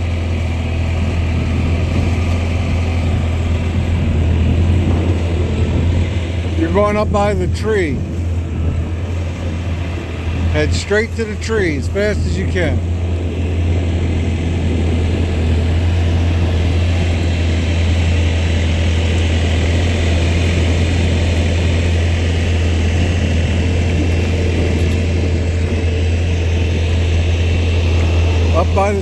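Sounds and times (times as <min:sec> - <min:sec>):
skid steer engine running: 0:00.0 - 0:29.0.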